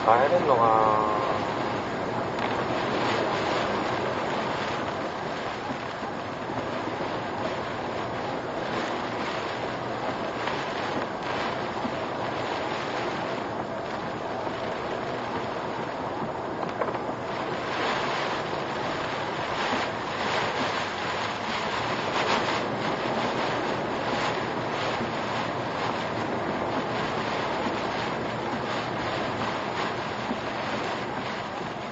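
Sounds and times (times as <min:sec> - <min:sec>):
wind and heavy rain on car: 0:00.0 - 0:31.9.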